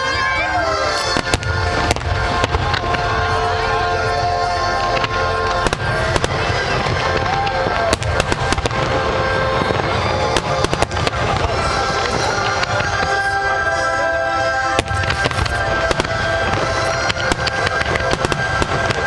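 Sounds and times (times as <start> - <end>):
fireworks bursting: 0.0 - 19.0
music soundtrack: 0.0 - 19.0.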